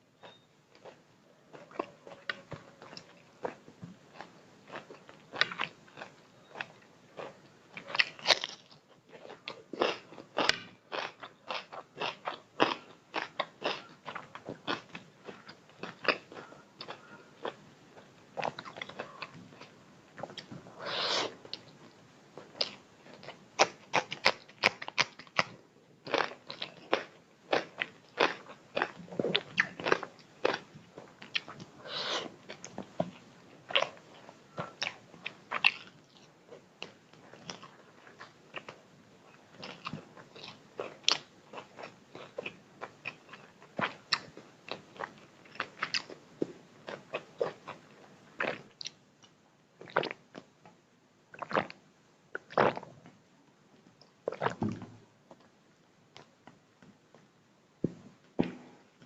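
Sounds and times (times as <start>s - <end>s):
person chewing and crunching: 0.2s - 20.5s, 22.4s - 46.2s, 46.8s - 50.5s.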